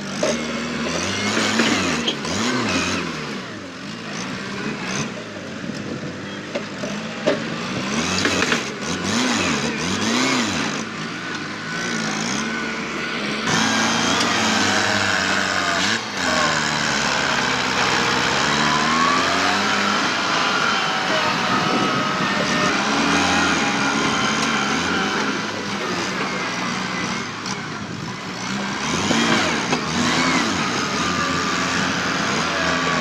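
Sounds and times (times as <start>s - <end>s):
tractor diesel engine revving: 0.0s - 6.2s, 6.8s - 33.0s.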